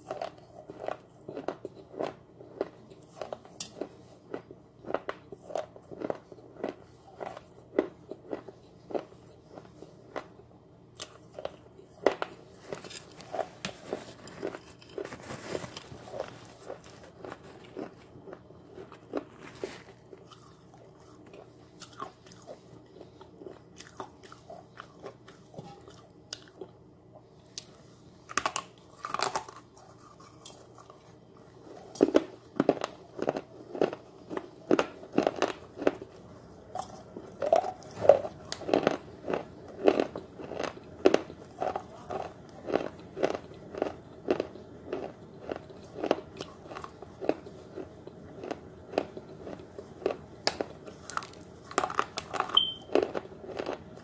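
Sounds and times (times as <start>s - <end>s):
person chewing and crunching clay: 0.0s - 26.8s, 27.5s - 54.0s.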